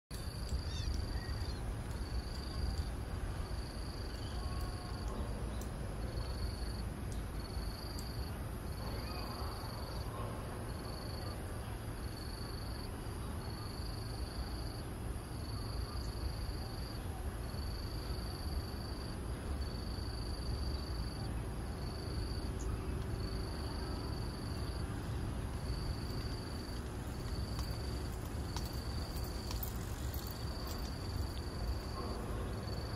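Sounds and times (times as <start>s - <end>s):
low outdoor rumble: 0.1s - 32.9s.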